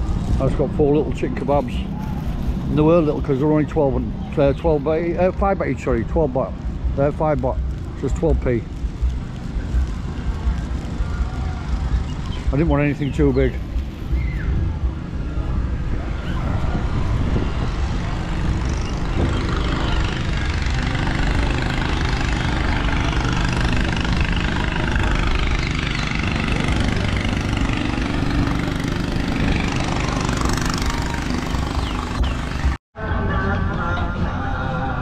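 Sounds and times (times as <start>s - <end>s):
street noise hubbub: 0.0s - 35.0s
vehicle engine idling: 1.2s - 32.8s.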